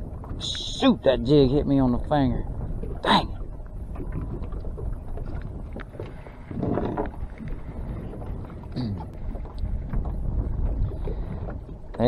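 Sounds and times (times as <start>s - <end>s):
water lapping against a boat: 0.0s - 12.0s
wind buffeting the microphone: 0.0s - 12.0s.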